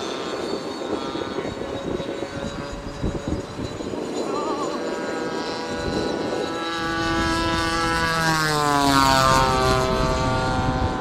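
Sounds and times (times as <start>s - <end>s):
model jet fans whining: 0.0s - 11.0s.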